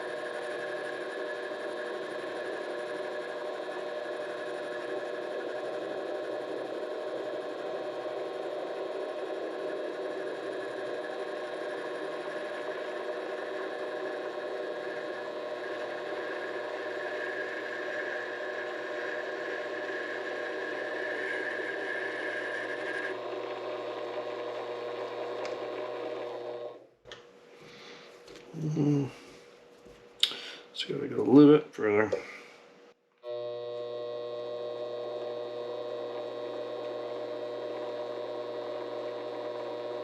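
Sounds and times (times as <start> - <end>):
lathe motor humming: 0.0 - 26.9, 33.2 - 40.0.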